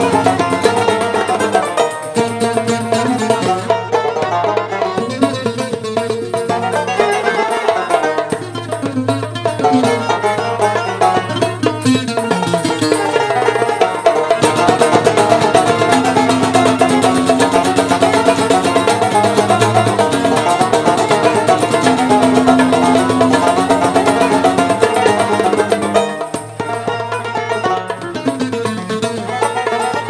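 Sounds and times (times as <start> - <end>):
rapidly picked plucked strings: 0.0 - 30.0.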